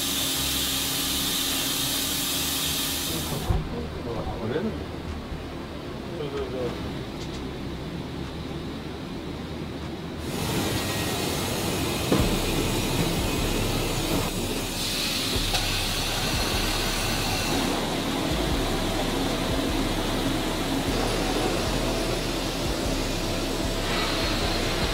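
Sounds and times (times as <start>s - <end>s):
mill machinery rumble and hiss: 0.0s - 24.9s.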